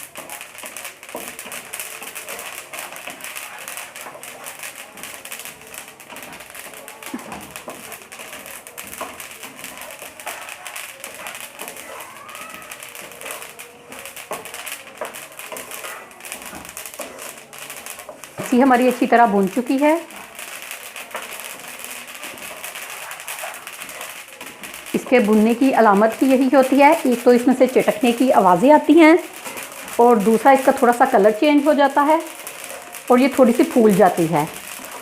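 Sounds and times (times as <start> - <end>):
seeds crackling in a hot pan: 0.0 - 35.0.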